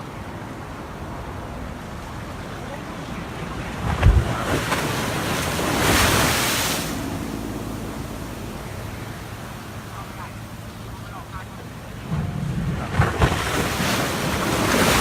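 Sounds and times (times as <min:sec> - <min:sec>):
waves breaking on shore: 0:00.0 - 0:15.0
wave crashing: 0:01.6 - 0:15.0.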